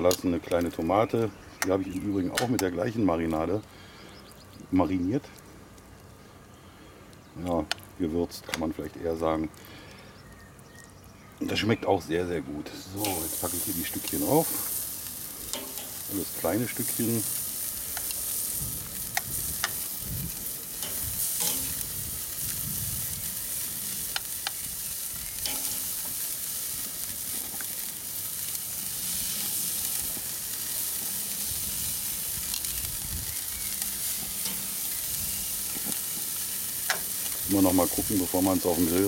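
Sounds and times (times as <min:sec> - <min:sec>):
meat sizzling on grill: 0:00.0 - 0:12.0, 0:12.7 - 0:39.0.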